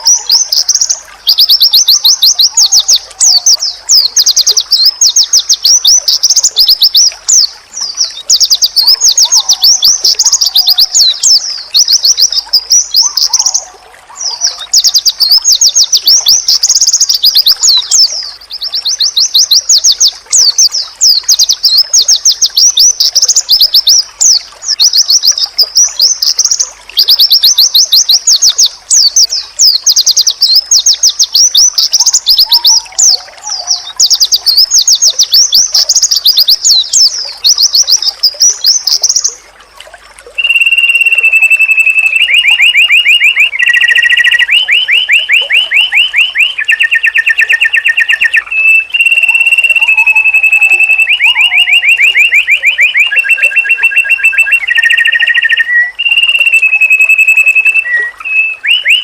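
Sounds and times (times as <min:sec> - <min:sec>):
bird whistles and trills: 0:00.0 - 0:39.4, 0:40.4 - 0:59.0
bird warbling song: 0:00.0 - 0:39.6, 0:40.2 - 0:59.0.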